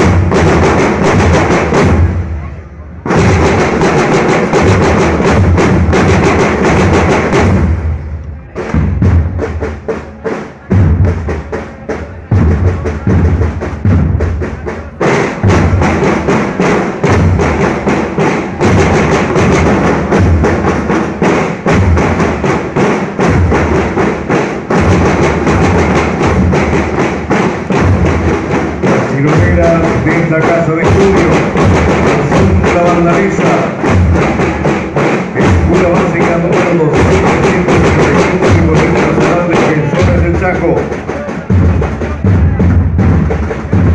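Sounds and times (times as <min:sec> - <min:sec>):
marching drums playing: 0:00.0 - 0:43.9.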